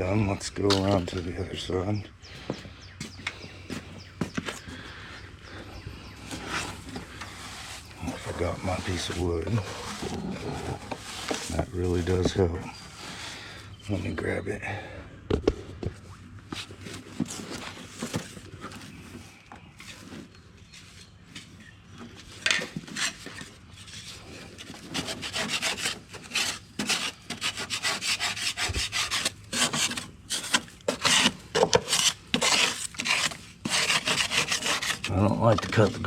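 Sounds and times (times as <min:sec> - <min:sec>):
wood scraping grass off mower deck: 0:03.7 - 0:14.4, 0:16.5 - 0:36.0.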